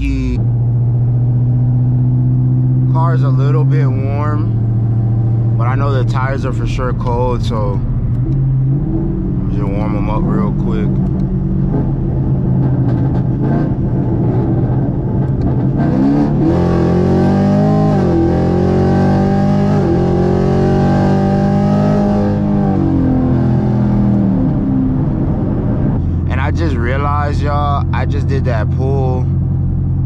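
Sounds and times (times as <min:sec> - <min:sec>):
car engine revving through gears: 0:00.0 - 0:25.2.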